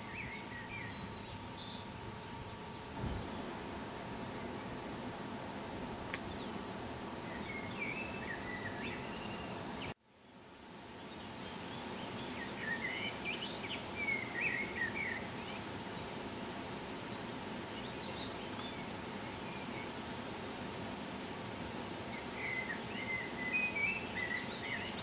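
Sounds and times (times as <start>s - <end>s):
outdoor background hiss: 0.0s - 25.0s
songbirds chirping: 0.0s - 25.0s.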